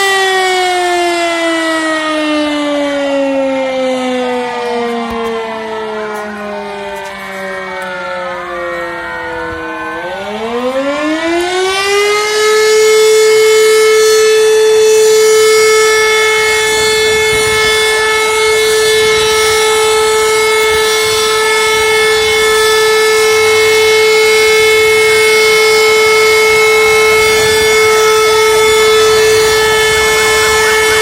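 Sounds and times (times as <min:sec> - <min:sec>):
siren winding up to held tone: 0:00.0 - 0:31.0
sirens sliding down in pitch: 0:00.0 - 0:31.0.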